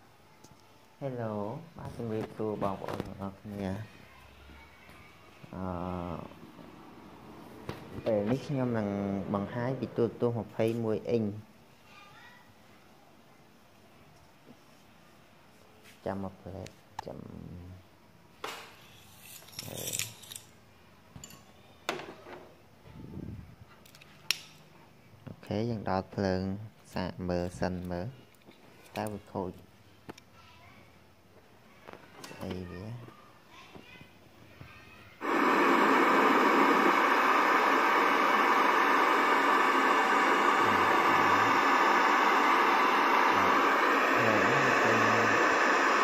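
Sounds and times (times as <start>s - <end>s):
television static hiss: 0.0s - 18.4s, 24.1s - 46.0s.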